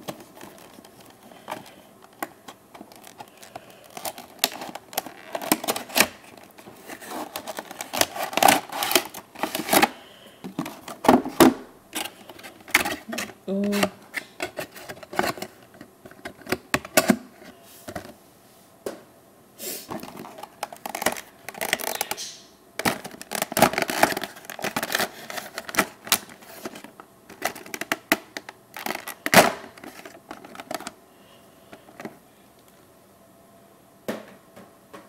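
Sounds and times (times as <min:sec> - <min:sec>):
cardboard packaging rustling: 0:00.0 - 0:18.2, 0:19.9 - 0:31.0.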